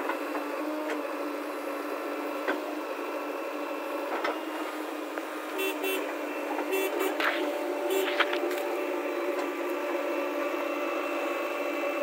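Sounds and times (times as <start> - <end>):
diesel engine and hydraulics humming: 0.0 - 12.0.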